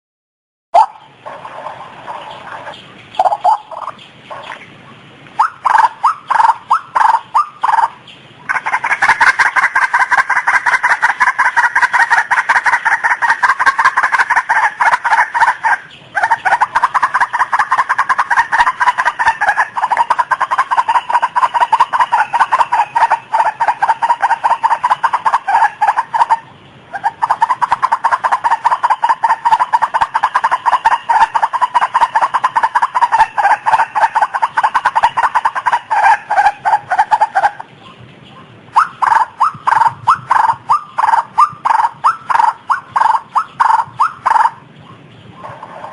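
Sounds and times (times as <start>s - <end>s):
waterhen calling: 0.8s - 45.9s.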